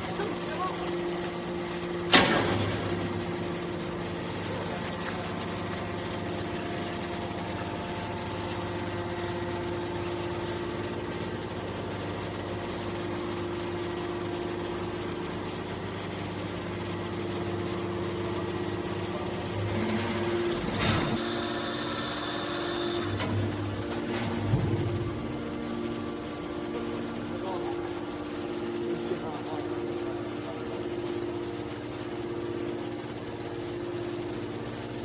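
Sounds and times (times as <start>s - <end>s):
electric motor and pump humming: 0.0s - 35.0s.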